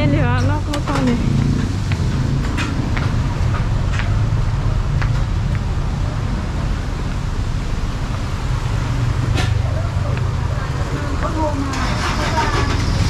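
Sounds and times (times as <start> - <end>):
low rumble of vehicle engines: 0.0 - 13.0.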